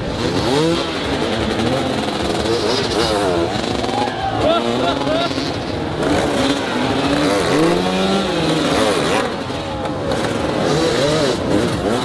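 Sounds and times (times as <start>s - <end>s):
dirt bikes revving: 0.0s - 12.0s.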